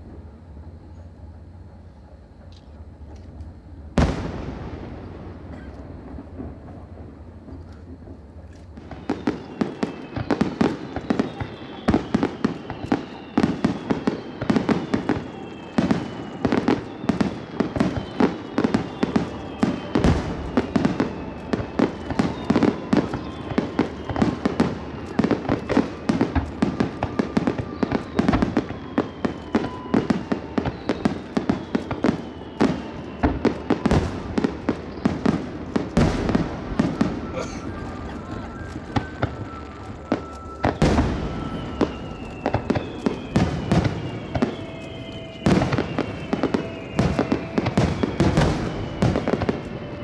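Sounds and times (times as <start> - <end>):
falling firework whistles: 0.0 - 50.0
fireworks bangs and booms: 0.0 - 50.0.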